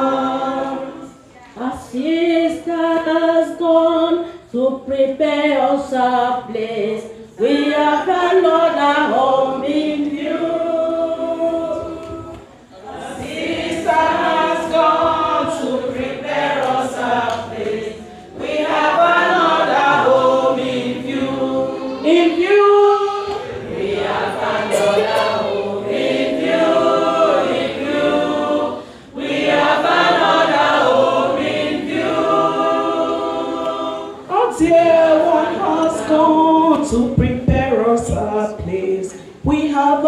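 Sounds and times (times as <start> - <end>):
group singing a hymn: 0.0 - 40.0.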